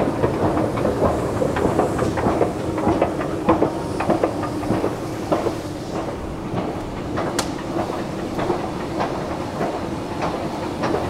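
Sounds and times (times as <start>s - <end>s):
escalator mechanical hum: 0.0s - 11.0s
rattling clicks of escalator steps: 0.0s - 11.0s.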